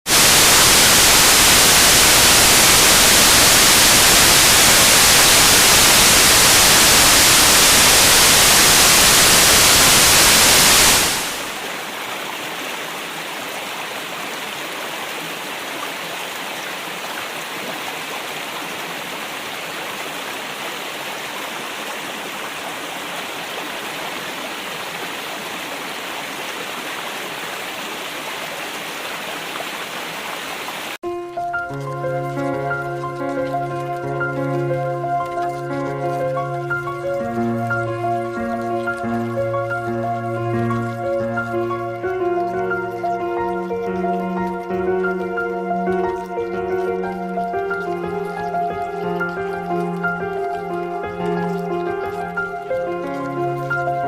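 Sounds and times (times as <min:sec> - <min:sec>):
river water rushing: 0:00.1 - 0:54.0.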